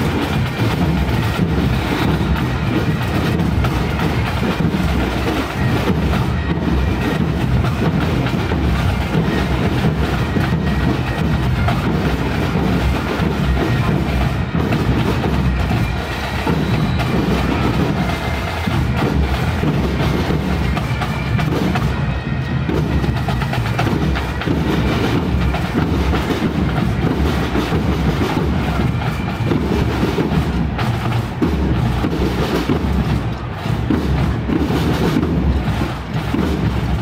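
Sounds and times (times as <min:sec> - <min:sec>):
snare and bass drums marching: 0:00.0 - 0:37.0.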